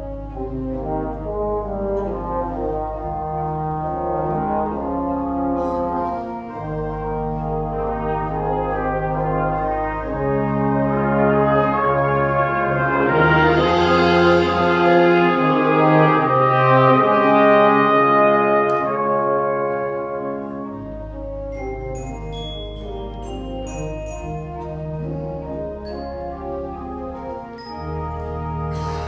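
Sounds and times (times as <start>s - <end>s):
brass ensemble playing chords: 0.0s - 29.0s.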